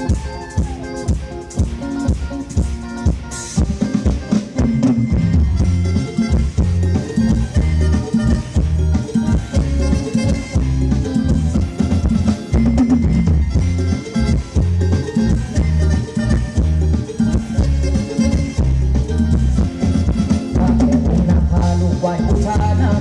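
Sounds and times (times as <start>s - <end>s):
drum kit beating: 0.0s - 23.0s
live band instrumental music: 0.0s - 23.0s
strong bass line: 3.6s - 23.0s.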